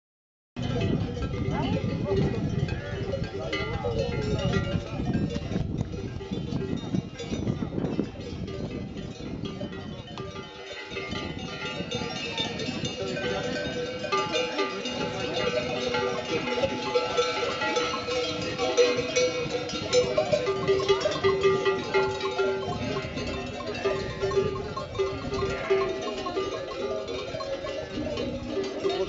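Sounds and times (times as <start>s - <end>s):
sheep bells clanking: 0.6s - 29.0s.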